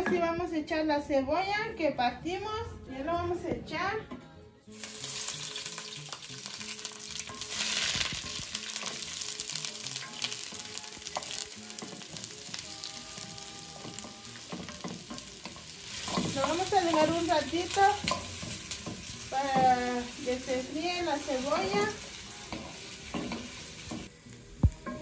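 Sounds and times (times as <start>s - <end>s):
onion sizzling in hot oil: 4.7s - 25.0s.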